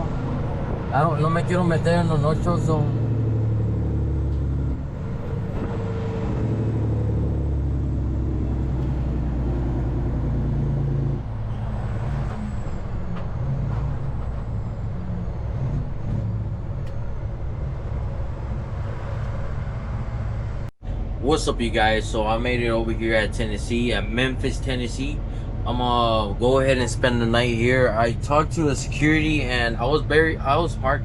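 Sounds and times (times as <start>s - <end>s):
truck diesel engine drone: 0.0s - 31.0s.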